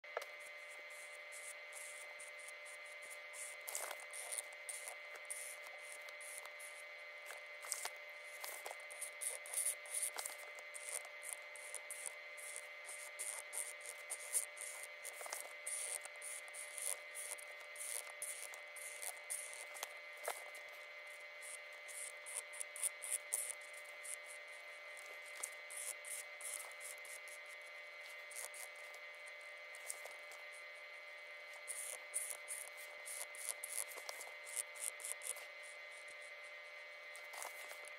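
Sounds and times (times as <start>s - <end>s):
faint steady whine: 0.1s - 37.9s
pen nib scratching paper: 0.4s - 29.0s, 29.8s - 30.2s, 31.7s - 36.2s, 37.2s - 37.9s.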